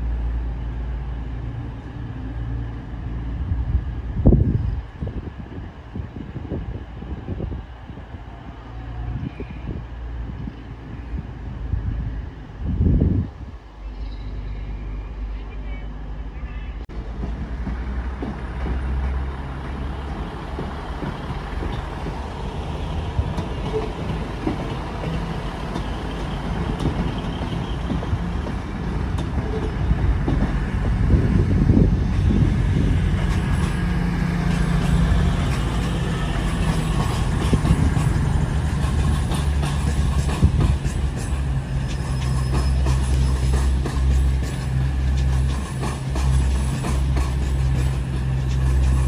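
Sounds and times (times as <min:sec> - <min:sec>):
diesel train engines rumbling: 0:00.0 - 0:49.0.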